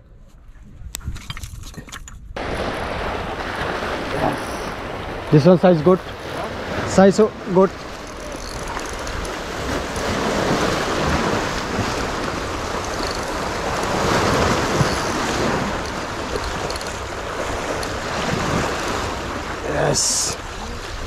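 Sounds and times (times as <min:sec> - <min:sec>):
wind buffeting microphone: 0:00.0 - 0:19.6
sea waves washing against rocks: 0:02.4 - 0:21.0.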